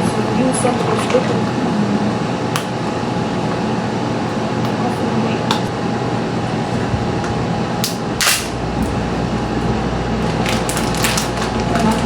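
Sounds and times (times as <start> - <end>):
appliance hum: 0.0 - 12.0.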